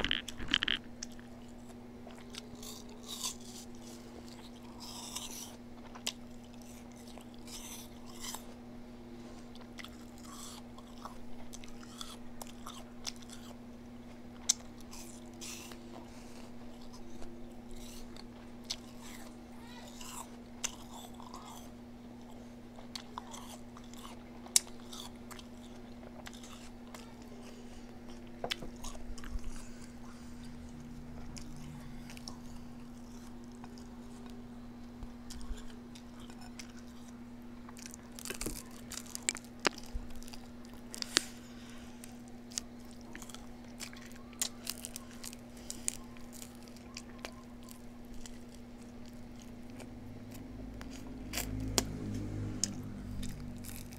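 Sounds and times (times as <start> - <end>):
person chewing food: 0.0 - 53.9
steady low hum: 0.0 - 53.9.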